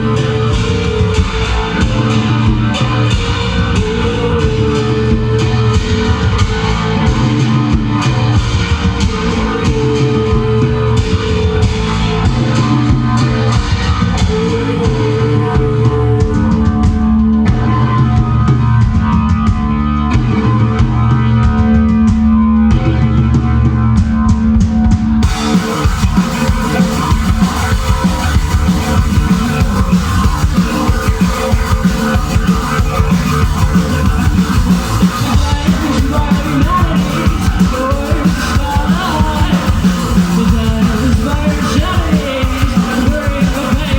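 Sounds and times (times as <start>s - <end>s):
rock band playing live: 0.0s - 43.9s.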